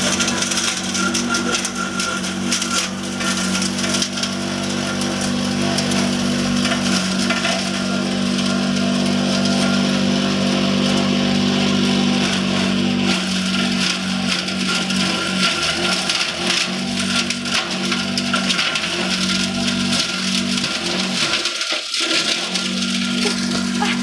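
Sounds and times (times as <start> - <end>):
branches crackling and snapping: 0.0 - 24.0
chipper machine humming: 0.0 - 24.0.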